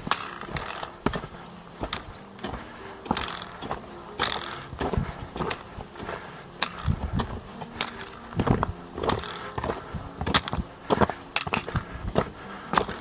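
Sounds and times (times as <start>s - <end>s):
boots crunching on snow: 0.0s - 13.0s.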